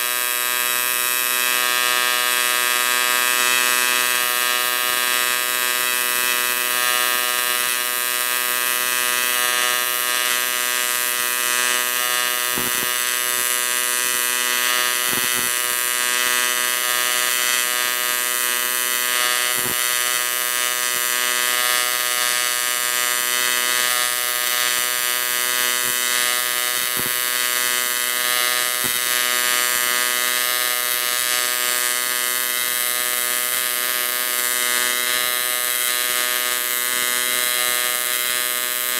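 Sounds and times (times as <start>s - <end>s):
welding arc buzzing with hiss: 0.0s - 38.9s.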